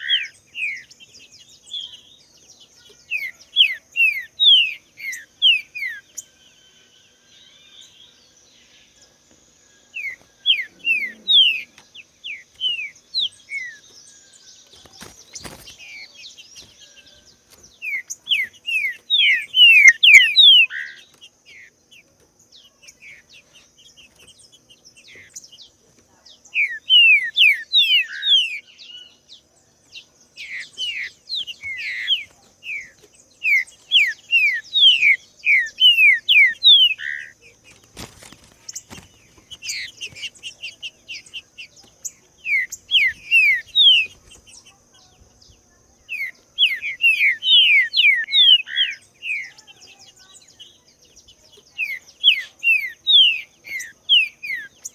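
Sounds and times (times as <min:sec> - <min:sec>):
bird singing whistled notes: 0:00.0 - 0:25.7, 0:26.4 - 0:37.4, 0:38.7 - 0:54.9.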